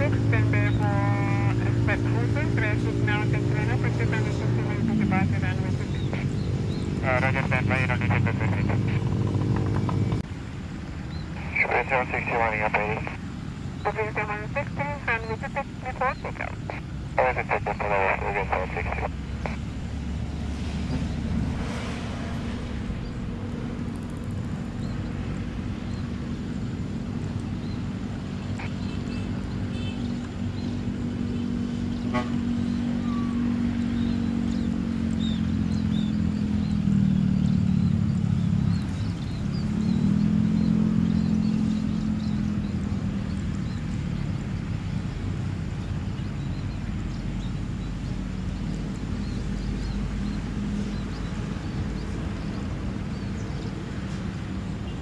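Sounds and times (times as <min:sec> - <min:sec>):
low engine drone: 0:00.0 - 0:10.3, 0:11.1 - 0:53.7.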